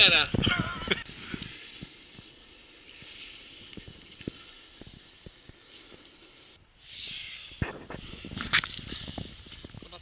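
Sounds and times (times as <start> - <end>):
campfire hissing and popping: 0.0 - 10.0.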